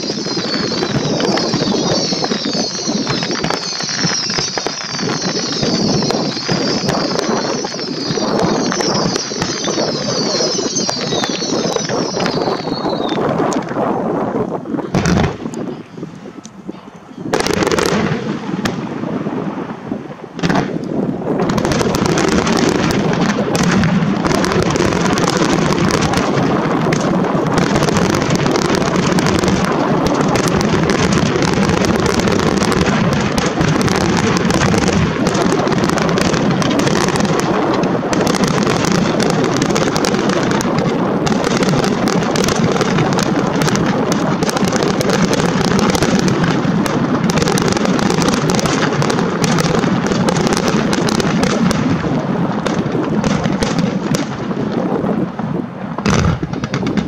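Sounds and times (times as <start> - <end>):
fireworks booming and crackling: 0.0 - 57.0
wind buffeting microphone: 0.0 - 57.0.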